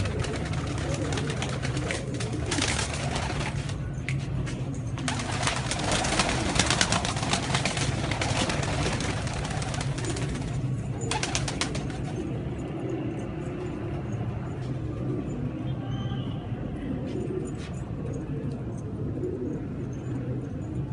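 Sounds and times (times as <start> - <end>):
pigeons cooing: 0.0 - 3.8, 5.0 - 15.6, 16.7 - 20.9.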